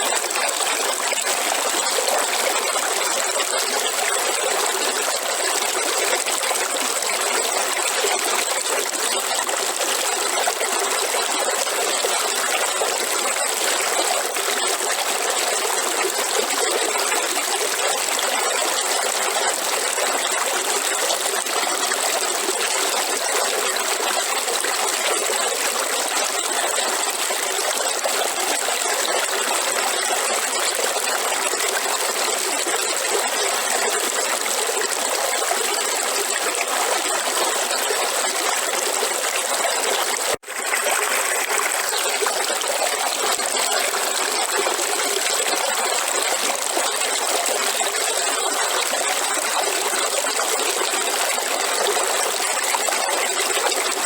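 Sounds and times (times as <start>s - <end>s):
river water running over rocks: 0.0s - 17.8s, 26.9s - 54.0s.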